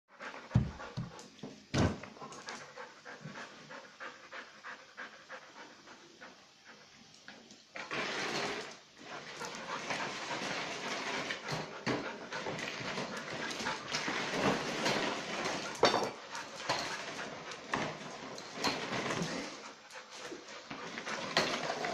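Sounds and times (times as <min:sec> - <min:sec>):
dog panting: 0:00.1 - 0:07.5, 0:09.0 - 0:18.4, 0:19.1 - 0:21.9.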